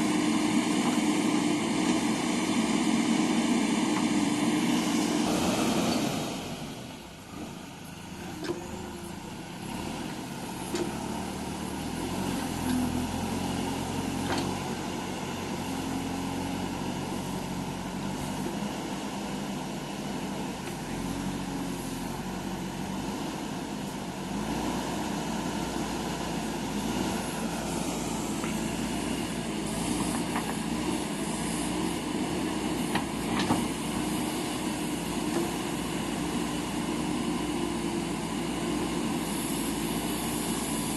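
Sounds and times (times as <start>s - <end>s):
diesel engine working: 0.0s - 40.9s.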